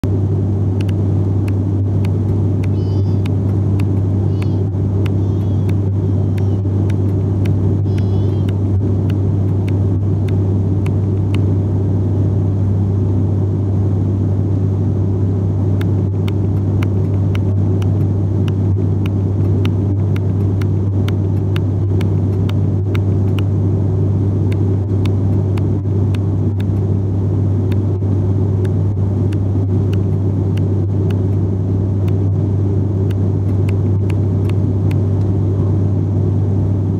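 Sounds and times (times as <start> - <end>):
turboprop cabin drone: 0.0 - 36.9.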